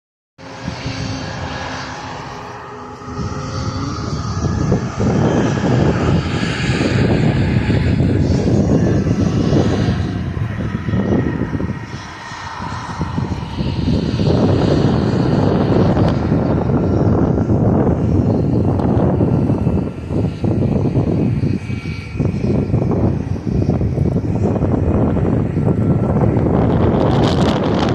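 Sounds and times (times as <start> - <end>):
jet engines running: 0.4 - 27.9
wind gusting on microphone: 0.4 - 27.9.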